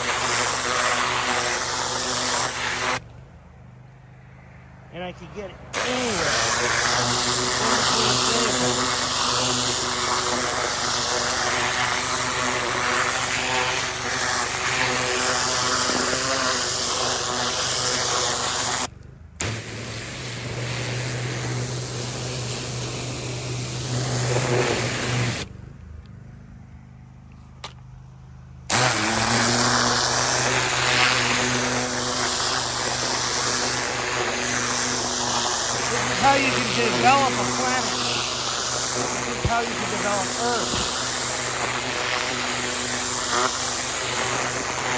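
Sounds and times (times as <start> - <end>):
water jet spray hiss: 0.0 - 3.0, 5.8 - 25.5, 28.7 - 44.9
pressure washer motor drone: 0.0 - 3.1, 5.7 - 26.2, 28.7 - 44.9.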